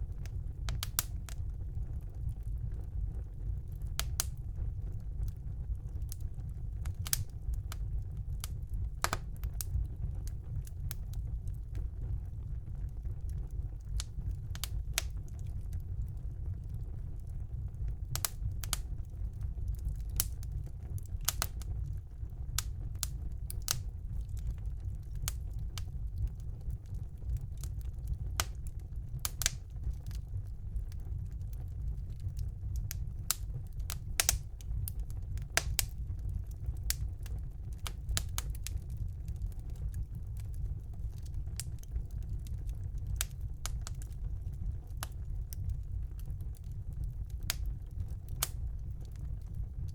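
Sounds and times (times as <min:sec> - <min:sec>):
low rumble of flames: 0:00.0 - 0:49.9
wood fire crackling and popping: 0:00.0 - 0:49.9.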